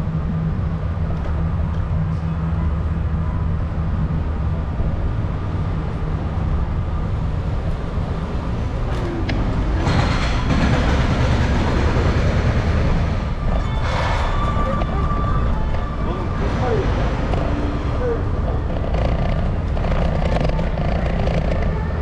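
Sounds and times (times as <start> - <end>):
electric scooter rolling: 0.0 - 22.0.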